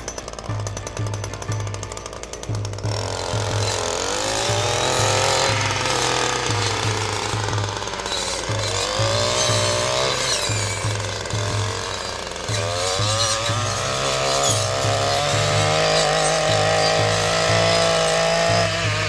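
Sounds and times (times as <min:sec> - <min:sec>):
brush cutter engine high revs: 0:00.0 - 0:19.0.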